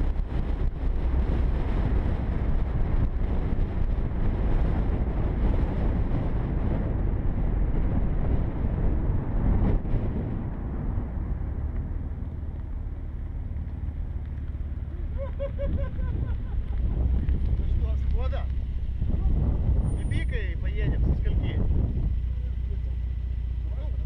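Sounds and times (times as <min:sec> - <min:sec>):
car driving at speed: 0:00.0 - 0:24.0
wind noise on microphone: 0:00.0 - 0:24.0.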